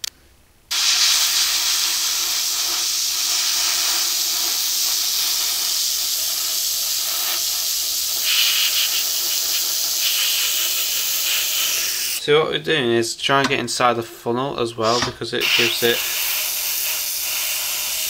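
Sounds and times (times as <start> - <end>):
spray paint hissing: 0.7 - 12.2, 14.8 - 18.0.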